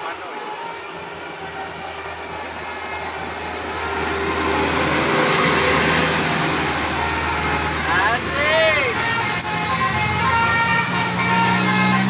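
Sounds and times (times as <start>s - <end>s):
bus passing by: 0.0s - 12.0s
low engine hum: 0.0s - 12.0s.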